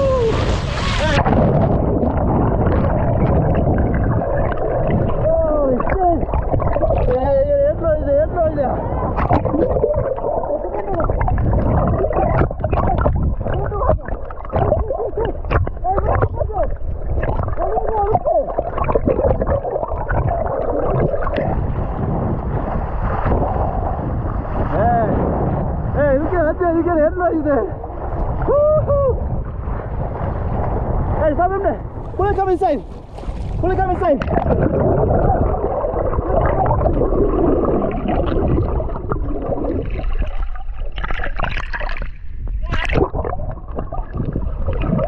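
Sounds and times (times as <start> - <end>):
choppy water: 0.0 - 45.0
underwater rumble and gurgling: 0.0 - 45.0
wind: 0.0 - 45.0.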